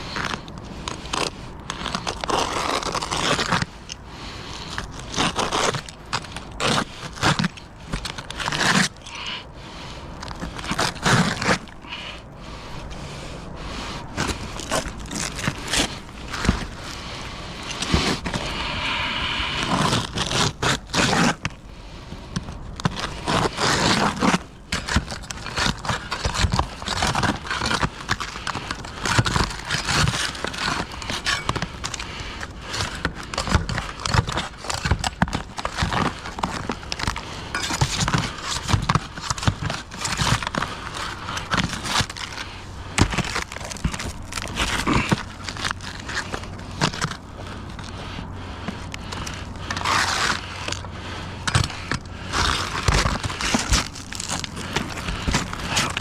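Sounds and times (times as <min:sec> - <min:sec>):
roofing materials scraping and knocking: 0:00.0 - 0:09.2, 0:10.2 - 0:12.2, 0:14.1 - 0:21.6, 0:22.3 - 0:50.8, 0:51.4 - 0:56.0.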